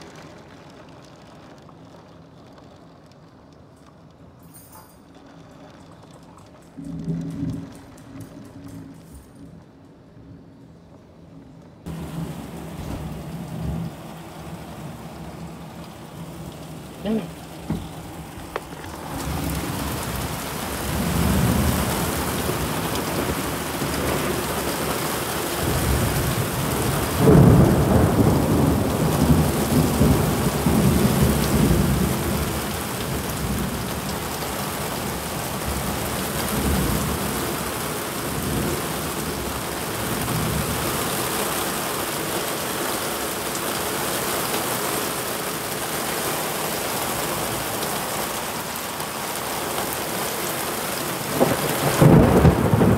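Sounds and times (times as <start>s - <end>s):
thunder rumbling: 0.0s - 4.2s, 5.4s - 44.3s, 45.0s - 52.9s
heavy rain pouring: 0.0s - 52.9s.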